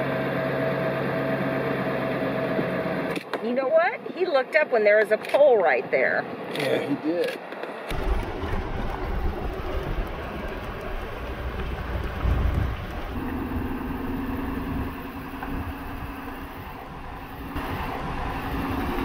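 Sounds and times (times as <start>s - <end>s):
motorhome road rumble: 0.0s - 19.0s
steady droning hum: 0.0s - 19.0s.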